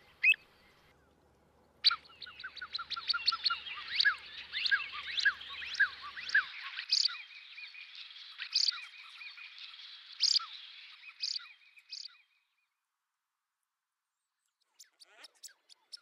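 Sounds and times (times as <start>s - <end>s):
faint high twittering: 0.0s - 12.9s, 14.1s - 16.0s.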